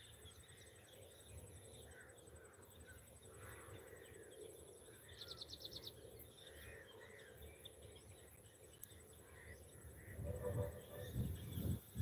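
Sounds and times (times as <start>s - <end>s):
distant bird calls: 0.0s - 12.0s.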